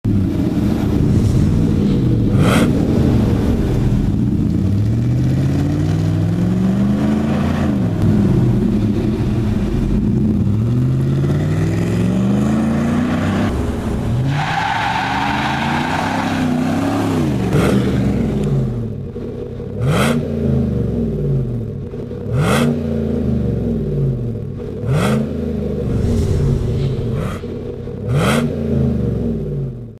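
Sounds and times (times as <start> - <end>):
pickup engine revving: 0.0 - 29.9.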